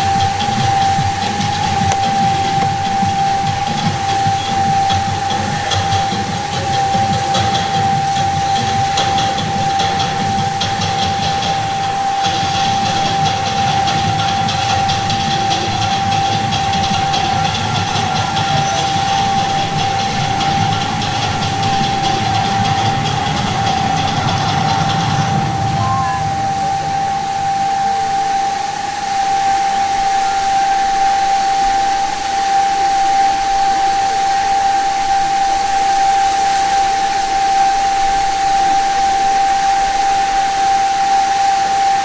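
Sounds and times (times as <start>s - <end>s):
fountain water jets hissing: 0.0s - 42.0s
high tone held: 0.0s - 42.0s.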